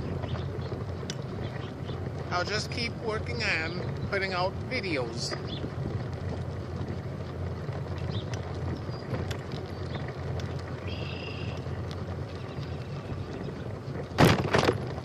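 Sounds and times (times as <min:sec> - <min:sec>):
bicycle tyre and wind rumble: 0:00.0 - 0:15.0.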